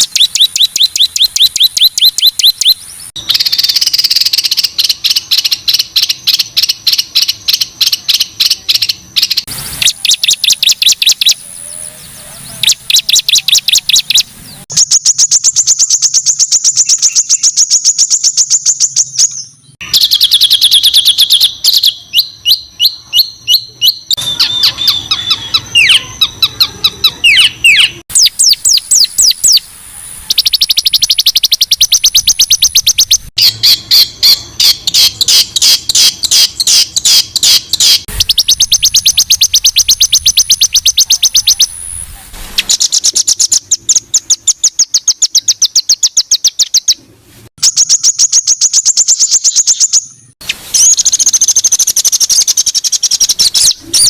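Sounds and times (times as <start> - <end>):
songbird harsh trills: 0.0 - 47.0.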